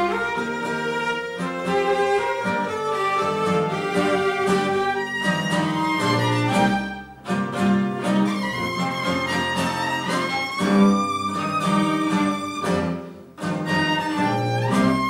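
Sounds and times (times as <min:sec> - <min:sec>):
bowed double bass: 0:00.0 - 0:15.0
violin: 0:00.0 - 0:15.0.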